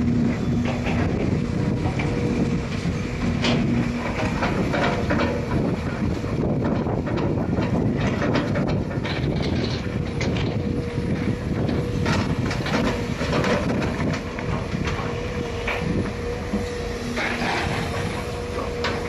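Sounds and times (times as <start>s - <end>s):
excavator engine running: 0.0s - 19.0s
steady whine: 0.0s - 19.0s.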